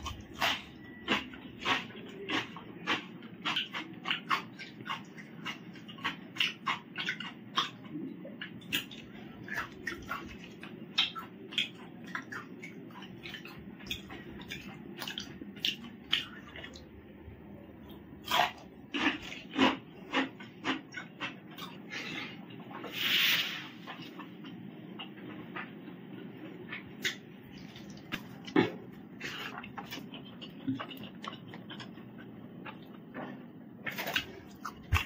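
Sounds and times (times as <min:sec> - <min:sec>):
wet chewing and lip-smacking: 0:00.0 - 0:17.1, 0:17.8 - 0:22.8, 0:23.8 - 0:35.0.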